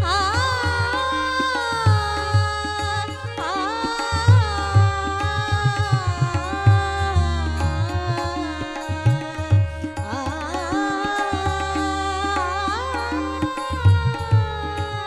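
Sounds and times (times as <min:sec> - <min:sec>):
harmonium drone: 0:00.0 - 0:15.0
woman singing devotional song: 0:00.0 - 0:15.0.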